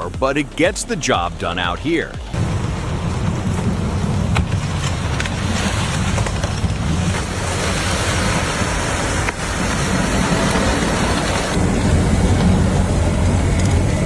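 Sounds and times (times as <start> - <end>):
heavy truck engine running: 0.0 - 14.0
rushing wind-like noise: 2.0 - 14.0.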